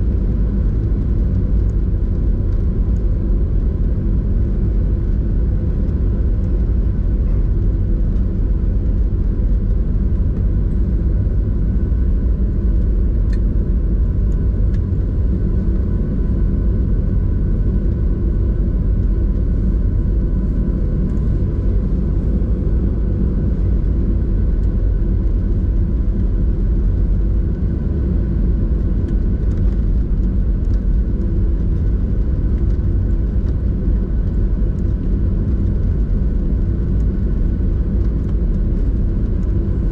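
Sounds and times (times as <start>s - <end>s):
airplane cabin rumble: 0.0s - 39.9s
faint engine whines: 0.0s - 39.9s.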